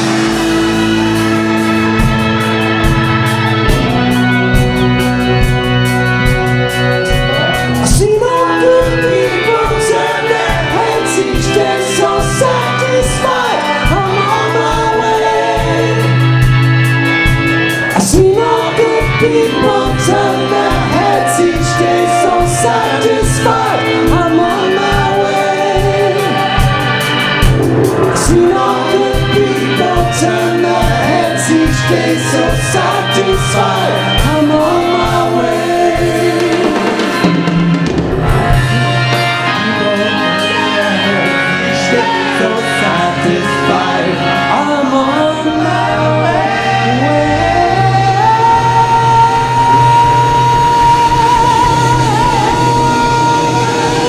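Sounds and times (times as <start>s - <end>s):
drums: 0.0s - 54.0s
electric guitar: 0.0s - 54.0s
organ chords: 0.0s - 54.0s
singers: 0.0s - 54.0s.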